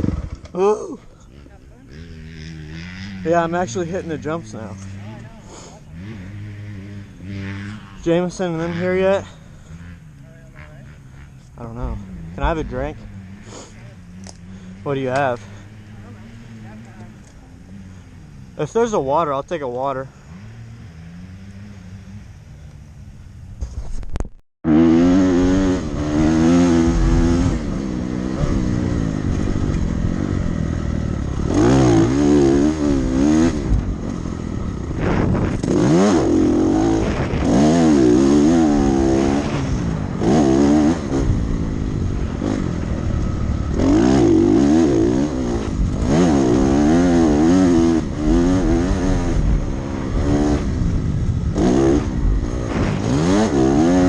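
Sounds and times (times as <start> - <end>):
dirt bike engine revving: 0.0 - 23.1, 24.6 - 54.0.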